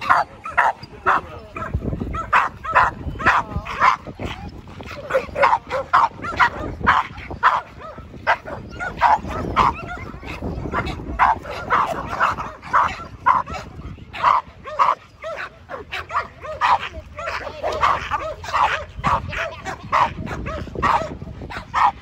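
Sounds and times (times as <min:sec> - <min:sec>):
dogs barking sharply: 0:00.0 - 0:22.0.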